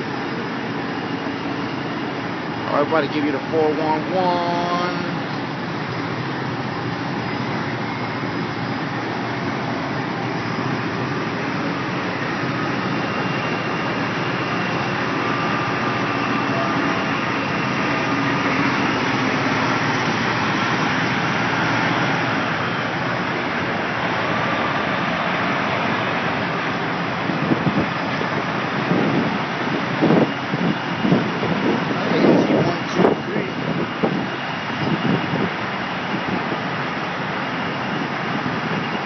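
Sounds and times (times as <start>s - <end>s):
truck diesel engine rumbling: 0.0s - 39.0s.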